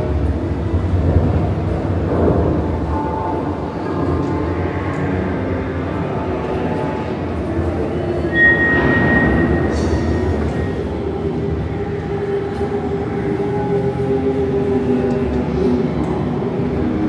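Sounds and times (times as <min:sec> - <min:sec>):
ride car rumbling on track: 0:00.0 - 0:17.0.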